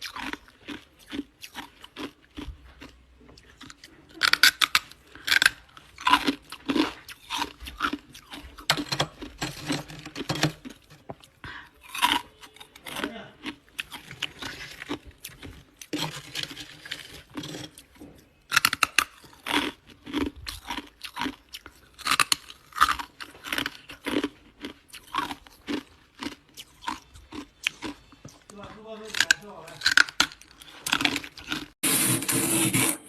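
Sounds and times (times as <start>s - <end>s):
ice crunching between teeth: 0.0s - 32.9s.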